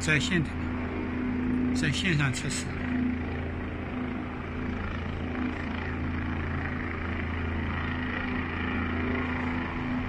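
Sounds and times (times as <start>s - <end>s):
helicopter hovering: 0.0s - 10.0s.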